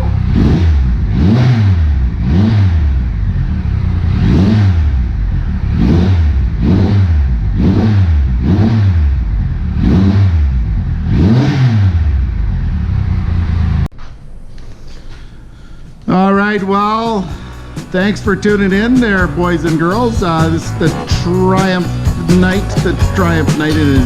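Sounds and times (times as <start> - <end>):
motorcycle engine revving: 0.0 - 13.9, 17.0 - 24.0.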